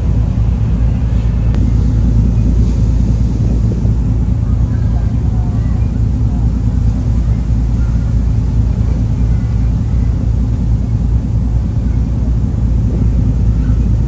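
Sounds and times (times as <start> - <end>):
even rushing noise: 0.0 - 14.0
ferry engine rumble: 0.0 - 14.0.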